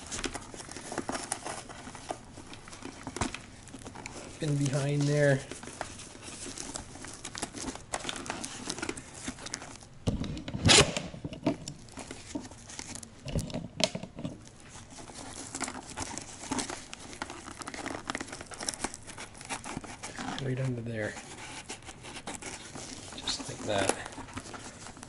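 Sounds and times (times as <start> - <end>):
hands rustling in helmet padding: 0.0 - 9.9, 11.6 - 13.2, 14.3 - 25.0.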